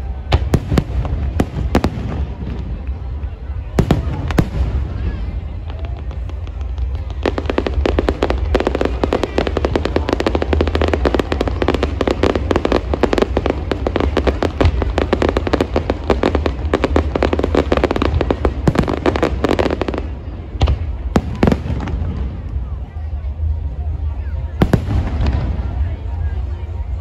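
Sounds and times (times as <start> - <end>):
fireworks cracking and banging: 0.0 - 26.8.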